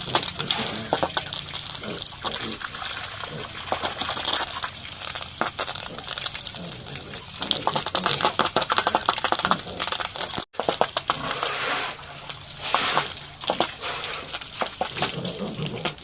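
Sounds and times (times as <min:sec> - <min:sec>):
pigs chomping feed: 0:00.0 - 0:16.0.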